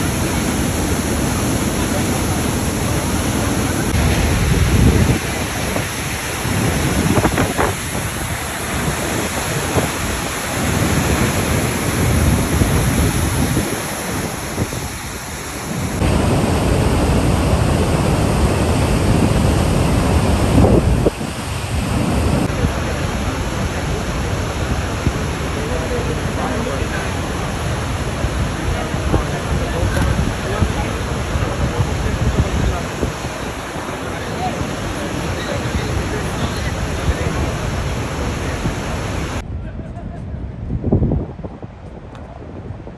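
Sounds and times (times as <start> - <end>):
waterfall rushing: 0.0 - 39.4
wind buffeting microphone: 0.0 - 42.9.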